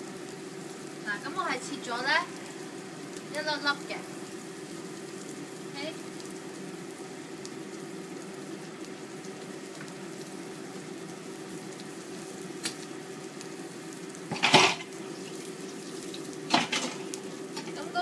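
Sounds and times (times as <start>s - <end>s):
onions sizzling: 0.0s - 18.0s
range hood fan humming: 0.0s - 18.0s.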